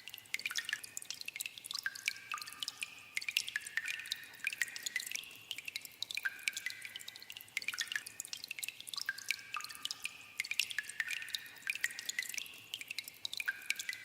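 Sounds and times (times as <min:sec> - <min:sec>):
water dripping in a cave: 0:00.0 - 0:14.0.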